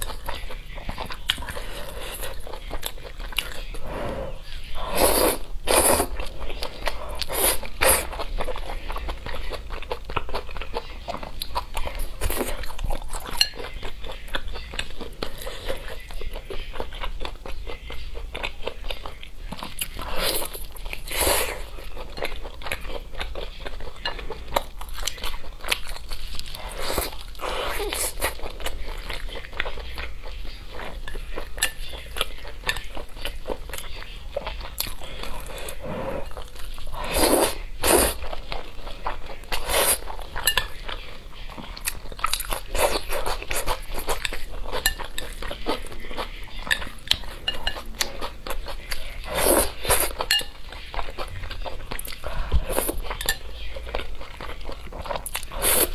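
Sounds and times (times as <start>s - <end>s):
wet chewing: 0.0s - 55.9s.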